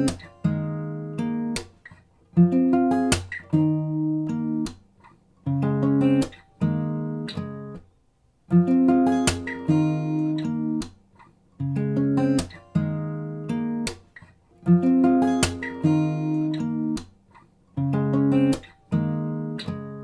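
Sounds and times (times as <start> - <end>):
acoustic guitar strumming: 0.0 - 7.8, 8.5 - 20.0.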